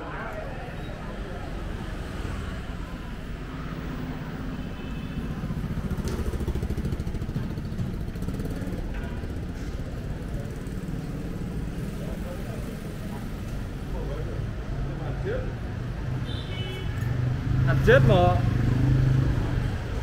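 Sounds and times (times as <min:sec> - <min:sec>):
motorbike engines passing: 0:00.0 - 0:20.0.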